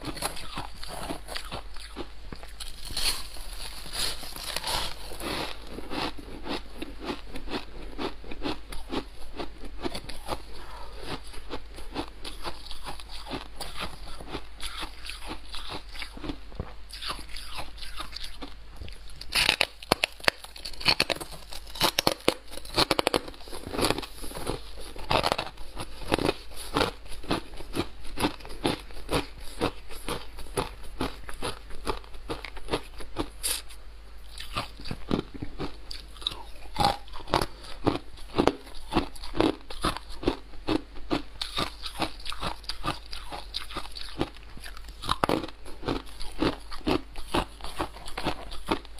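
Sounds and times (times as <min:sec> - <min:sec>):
chewing crunchy ice: 0:00.0 - 0:48.9.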